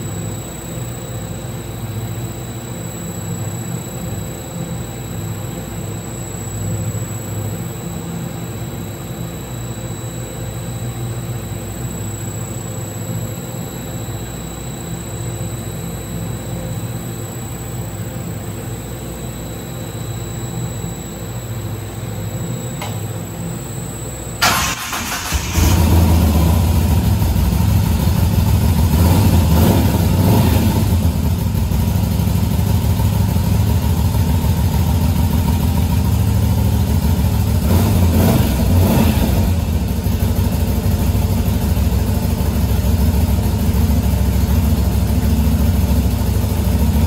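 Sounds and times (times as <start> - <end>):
mechanical hum: 0.0 - 47.0
thin high whine: 0.0 - 47.0.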